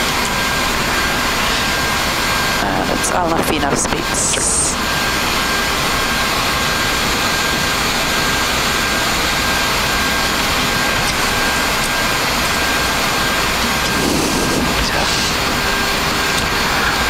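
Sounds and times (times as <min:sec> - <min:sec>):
airflow and jet engine noise: 0:00.0 - 0:17.0.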